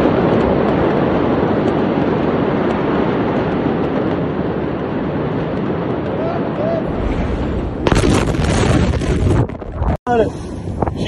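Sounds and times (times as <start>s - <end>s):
faint fire crackles: 0.0s - 11.0s
fire roaring: 0.0s - 11.0s.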